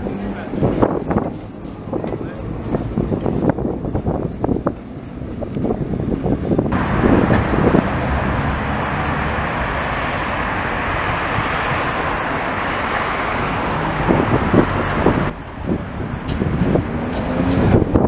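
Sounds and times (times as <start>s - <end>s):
road traffic: 0.0s - 18.0s
tram rumbling on track: 0.0s - 18.0s
wind on microphone: 0.4s - 18.0s.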